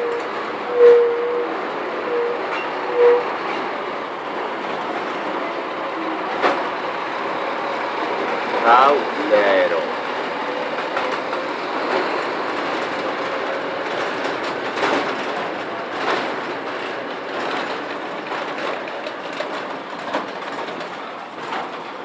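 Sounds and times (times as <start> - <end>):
heavy trucks passing: 0.0 - 22.0
trailers clattering knocks: 0.0 - 22.0.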